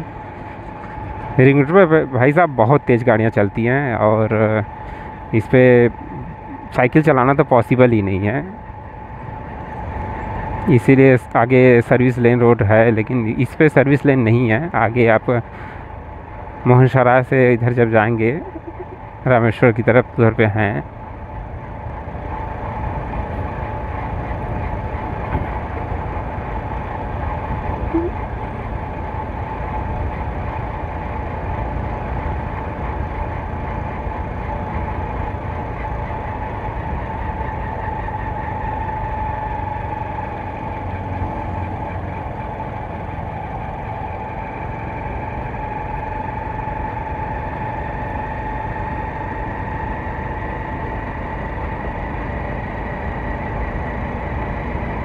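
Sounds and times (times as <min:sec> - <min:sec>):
motorcycle engine rumbling: 0:00.0 - 0:13.4, 0:15.3 - 0:55.0.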